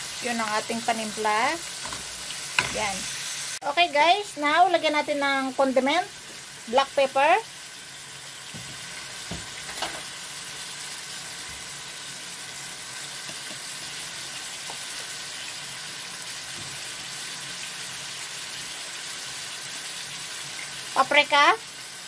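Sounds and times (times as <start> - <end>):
meat and onions sizzling in a pan: 0.0 - 22.0.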